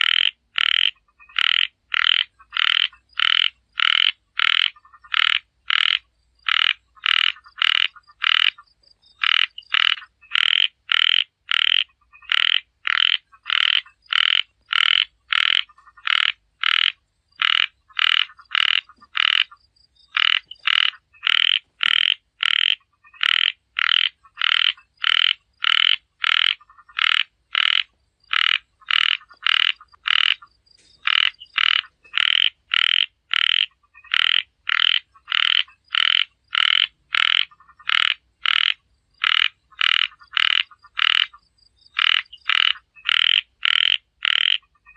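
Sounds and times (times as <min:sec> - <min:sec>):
frog croaking: 0:00.0 - 0:44.9.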